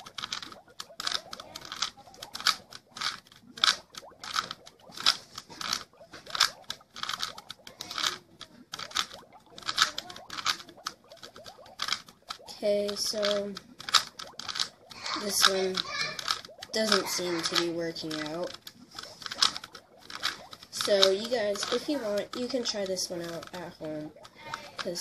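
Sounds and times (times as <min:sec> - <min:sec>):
puzzle cube plastic clicks: 0:00.0 - 0:25.0.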